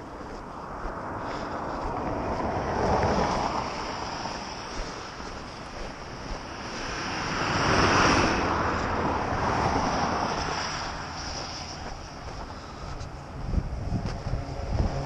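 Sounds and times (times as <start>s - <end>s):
truck passing on road: 0.0s - 15.0s.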